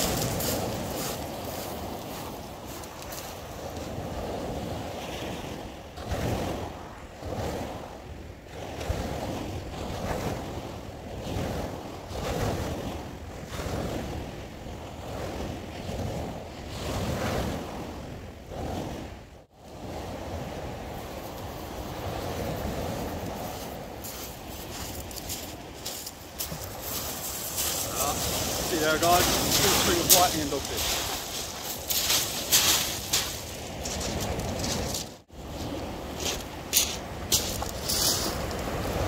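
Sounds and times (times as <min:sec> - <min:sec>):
waves on shingle beach: 0:00.0 - 0:39.0
wind buffeting microphone: 0:00.0 - 0:39.0.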